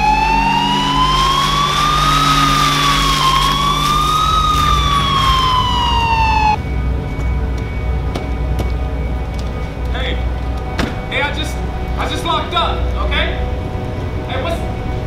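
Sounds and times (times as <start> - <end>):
police siren wailing: 0.0 - 12.4.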